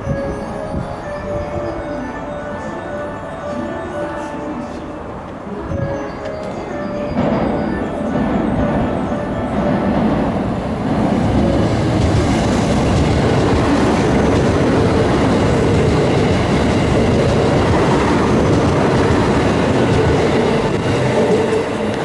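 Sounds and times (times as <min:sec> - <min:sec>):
electric train rolling: 0:00.0 - 0:22.0.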